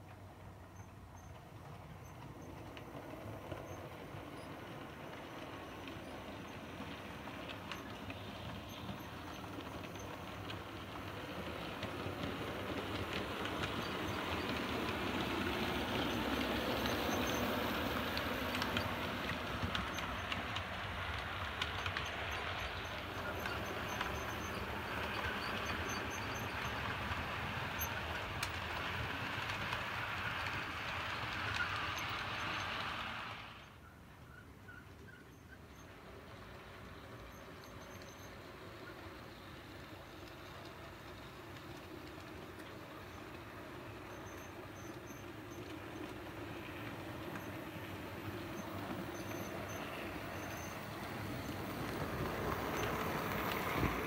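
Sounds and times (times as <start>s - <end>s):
model train rolling rumble: 0.0s - 54.0s
wheels clicking over rail joints: 0.0s - 54.0s.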